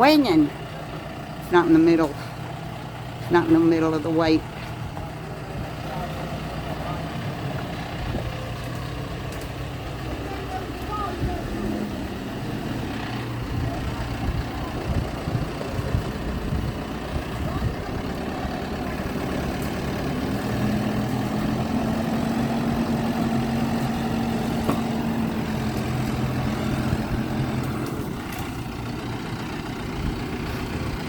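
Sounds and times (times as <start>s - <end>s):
heavy equipment engine running: 0.0s - 31.0s.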